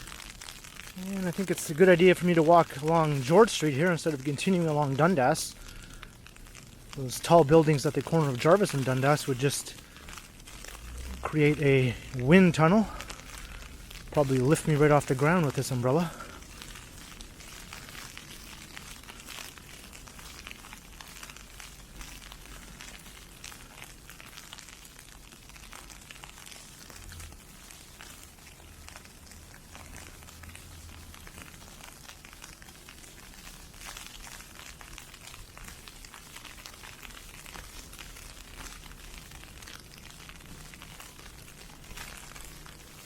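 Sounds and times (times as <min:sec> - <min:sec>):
ice pellets hitting an umbrella: 0:00.0 - 0:43.0.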